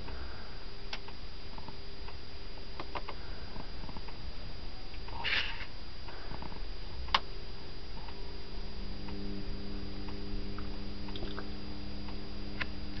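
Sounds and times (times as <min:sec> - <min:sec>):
inverter humming: 0:00.0 - 0:13.0
thin high whine: 0:00.0 - 0:13.0.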